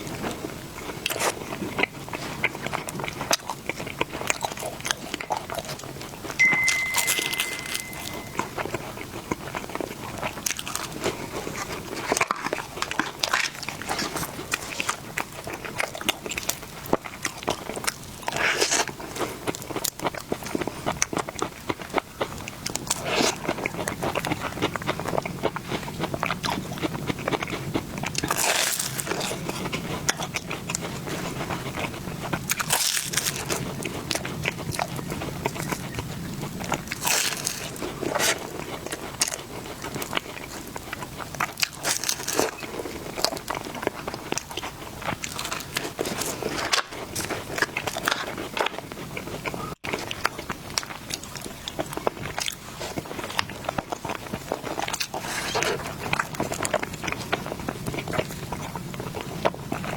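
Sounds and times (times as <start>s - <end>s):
chewing with crisp crunches: 0.0s - 59.9s.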